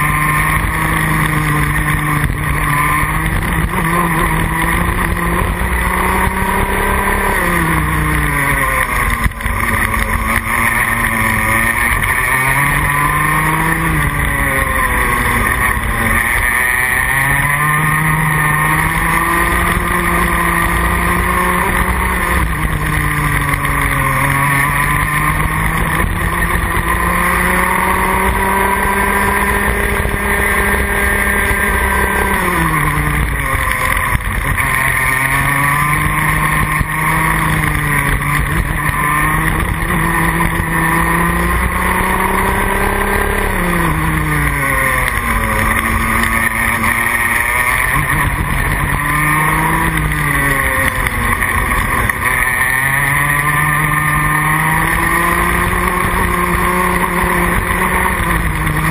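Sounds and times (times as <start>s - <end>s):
kart engine revving: 0.0s - 58.9s.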